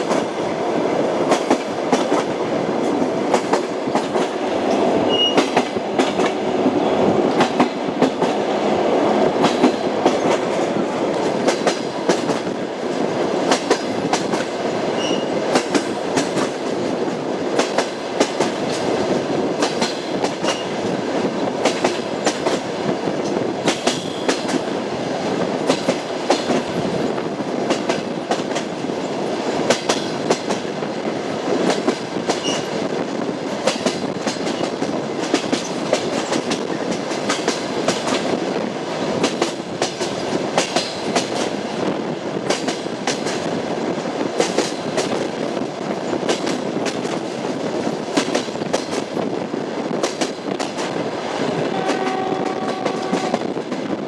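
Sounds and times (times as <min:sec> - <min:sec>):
steady train rumble: 0:00.0 - 0:54.0
train wheels clattering: 0:01.2 - 0:30.8, 0:31.4 - 0:54.0.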